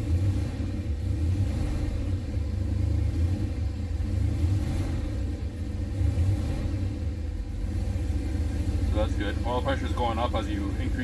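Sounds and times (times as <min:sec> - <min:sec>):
car engine rumbling above idle: 0:00.0 - 0:11.0.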